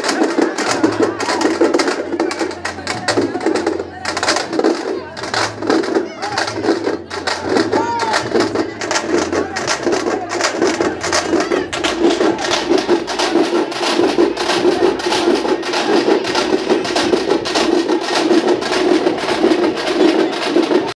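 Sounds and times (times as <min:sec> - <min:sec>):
fast rhythmic drumming: 0:00.0 - 0:21.0.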